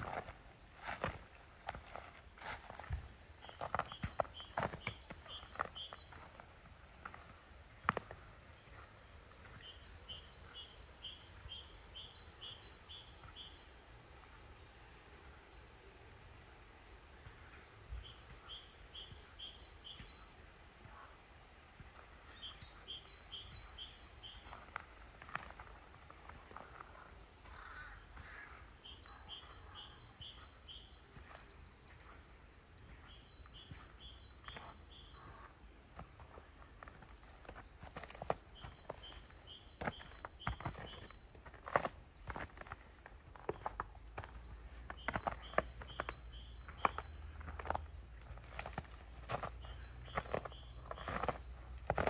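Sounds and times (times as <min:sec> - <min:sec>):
faint outdoor background: 0:00.0 - 0:52.0
songbird singing: 0:00.0 - 0:52.0.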